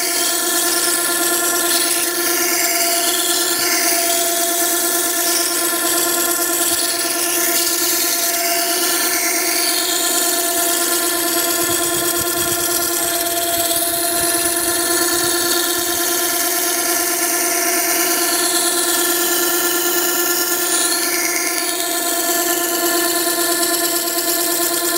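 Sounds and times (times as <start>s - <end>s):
sharpener machine hum: 0.0s - 24.9s
steel grinding on wet stone: 0.1s - 24.8s.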